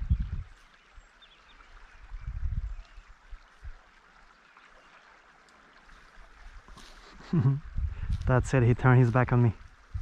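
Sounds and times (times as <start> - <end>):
river flowing: 0.0 - 10.0.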